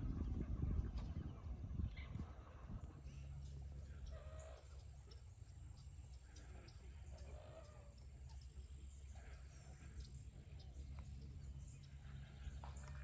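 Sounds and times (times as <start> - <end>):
faint birds calling: 0.0 - 13.0
low steady rumble: 0.0 - 13.0.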